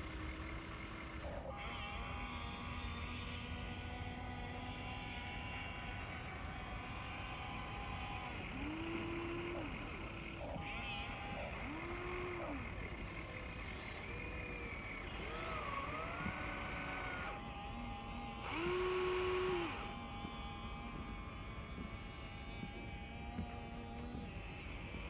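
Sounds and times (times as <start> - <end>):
small electric motors whining: 0.0 - 25.0.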